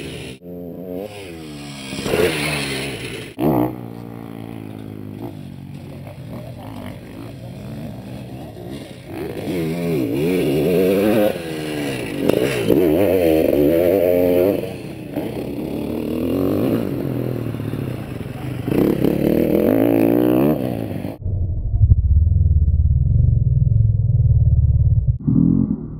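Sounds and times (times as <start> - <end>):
motocross engine revving: 0.0 - 21.2.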